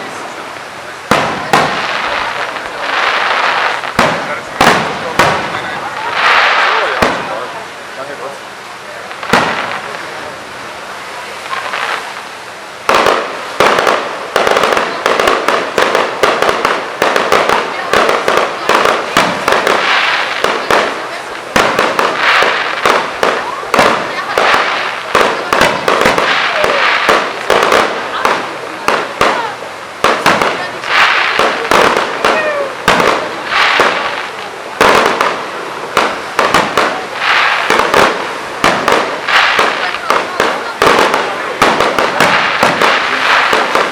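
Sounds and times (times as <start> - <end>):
fireworks crackling: 0.0 - 43.9.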